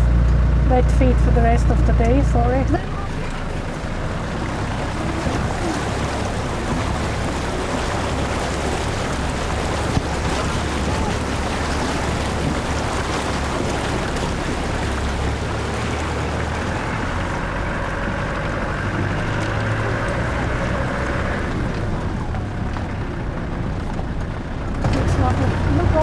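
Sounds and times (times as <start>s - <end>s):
tyres rushing on road: 0.0s - 26.0s
vehicle engine droning: 0.0s - 26.0s.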